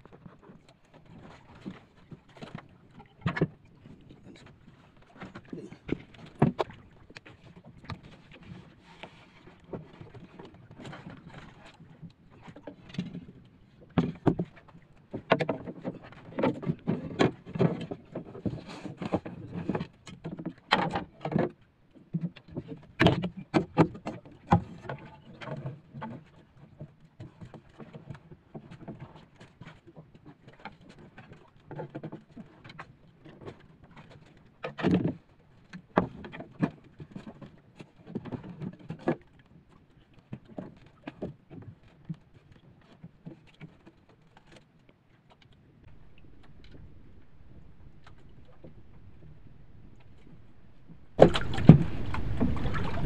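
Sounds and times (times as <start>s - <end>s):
water against hull: 0.0s - 53.0s
wooden knocks and bumps in canoe: 0.2s - 39.3s, 45.9s - 53.0s.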